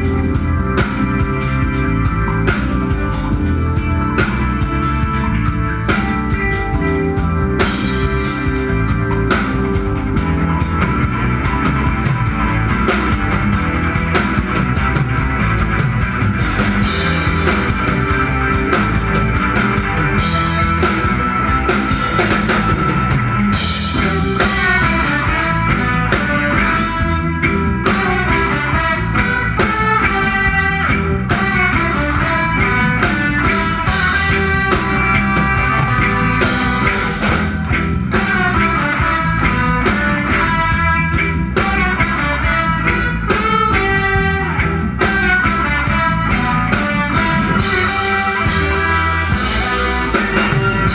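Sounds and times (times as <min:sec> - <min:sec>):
live band playing instrumental: 0:00.0 - 0:50.9
quick high lead guitar line: 0:00.0 - 0:50.9.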